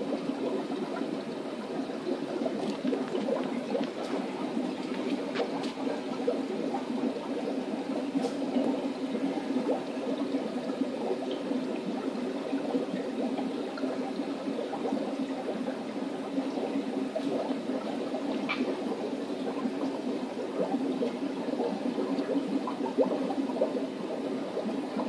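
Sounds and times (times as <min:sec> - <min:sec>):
water bubbling and gurgling: 0:00.0 - 0:25.0.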